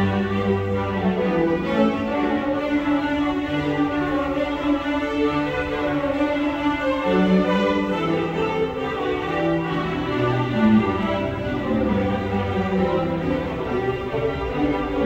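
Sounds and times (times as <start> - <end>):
string orchestra playing: 0.0 - 15.0.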